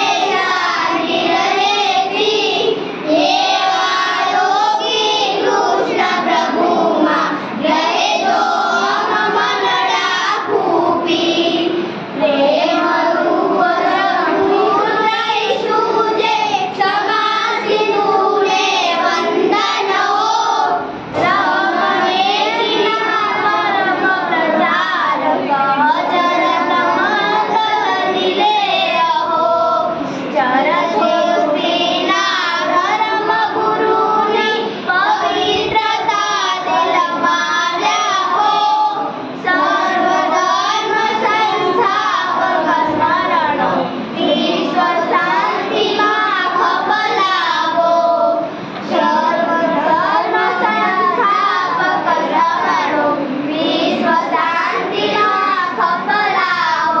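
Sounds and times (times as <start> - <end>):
girls singing together: 0.0 - 57.0.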